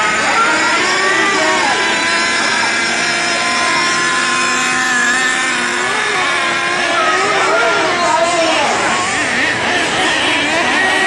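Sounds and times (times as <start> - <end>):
toy truck motors whining: 0.0 - 11.0.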